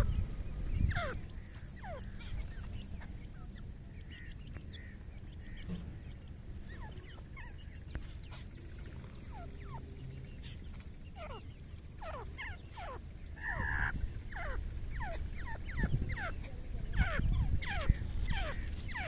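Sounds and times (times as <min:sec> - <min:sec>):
faint bird chirps: 0:00.0 - 0:19.0
low steady rumble: 0:00.0 - 0:19.0.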